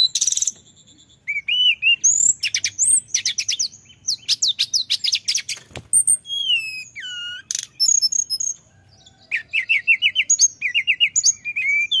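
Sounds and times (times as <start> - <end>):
bird twittering and whistling: 0.0 - 12.0.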